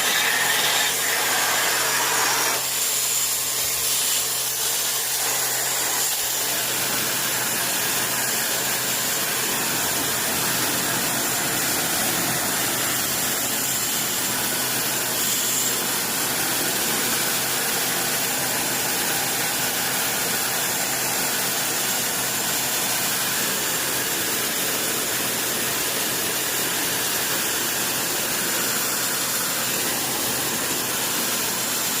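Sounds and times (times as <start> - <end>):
pressure washer motor hum: 0.0 - 32.0.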